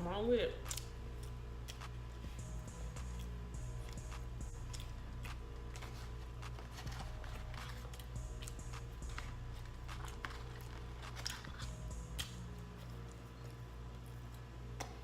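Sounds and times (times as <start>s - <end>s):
steady low hum: 0.0s - 15.0s
chewing and biting food: 0.6s - 14.5s.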